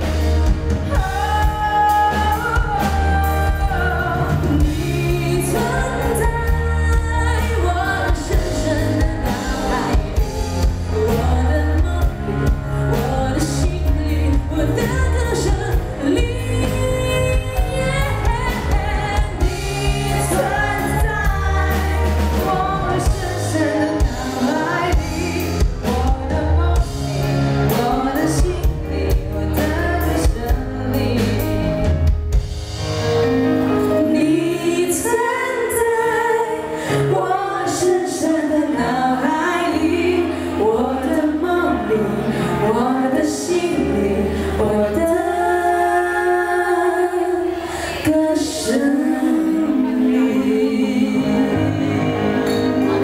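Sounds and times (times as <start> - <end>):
women singing into microphones: 0.0 - 31.9, 33.9 - 53.0
bass: 0.0 - 53.0.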